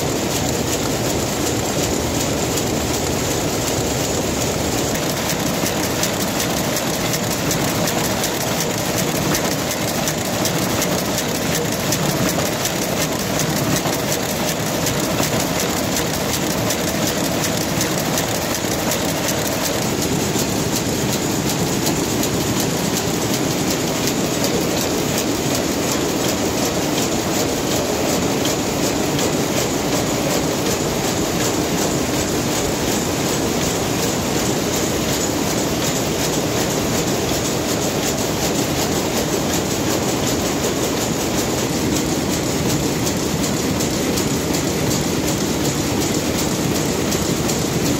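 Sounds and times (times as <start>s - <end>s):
weaving looms clattering: 0.0s - 47.9s.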